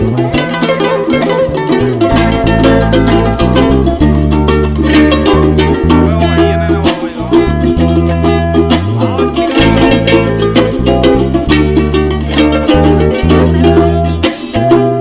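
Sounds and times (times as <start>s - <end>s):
music with heavy bass: 0.0s - 15.0s.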